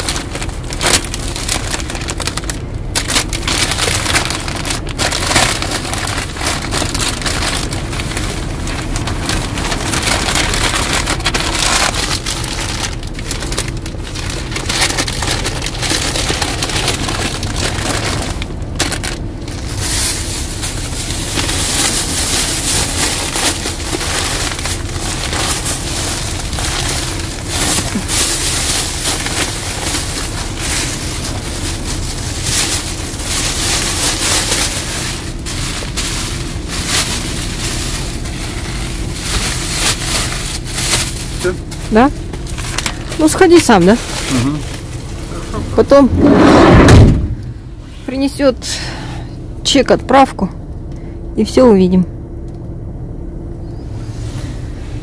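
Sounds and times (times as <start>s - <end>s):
newspaper crackling and rustling: 0.0s - 46.3s
plastic bags rustling: 0.0s - 49.0s
low rumble: 0.0s - 55.0s.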